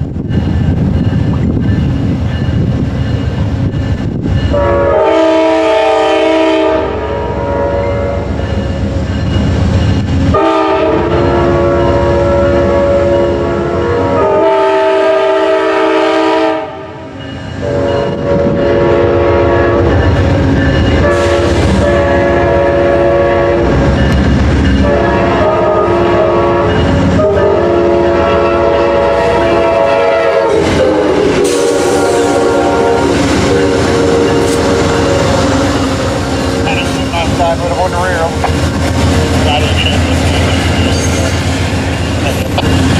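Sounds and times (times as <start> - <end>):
train wheels rumbling on rails: 0.0 - 42.9
locomotive horns blowing: 4.5 - 8.4, 10.3 - 41.4.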